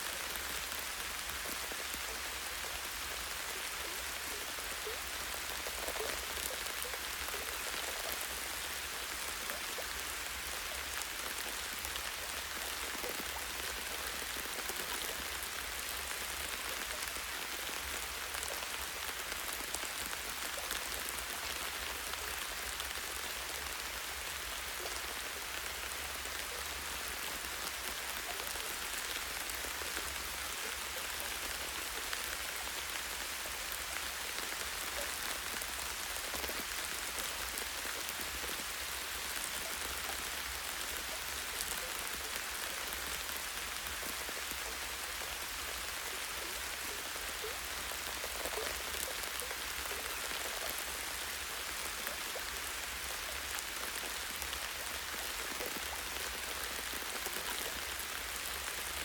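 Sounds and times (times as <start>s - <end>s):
light rain on leaves: 0.0s - 59.0s.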